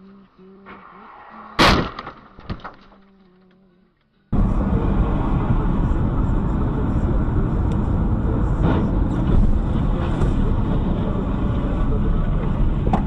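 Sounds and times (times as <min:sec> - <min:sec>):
car engine: 0:00.0 - 0:03.5, 0:04.3 - 0:13.0
road noise: 0:00.0 - 0:13.0.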